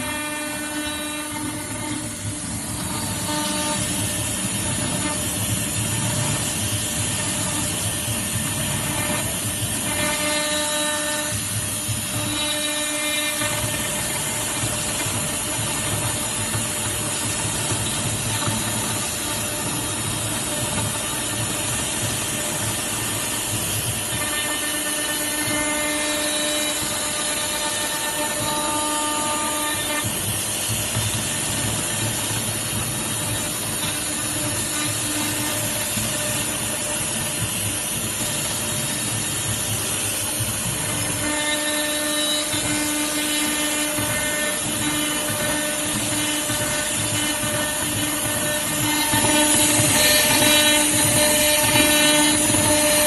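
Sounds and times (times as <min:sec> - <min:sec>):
cnc router milling metal: 0:00.0 - 0:53.0.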